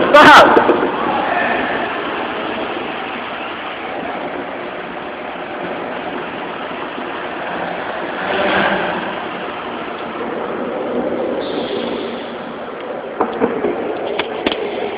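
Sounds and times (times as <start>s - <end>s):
car engine and tyre noise: 0.0s - 14.9s.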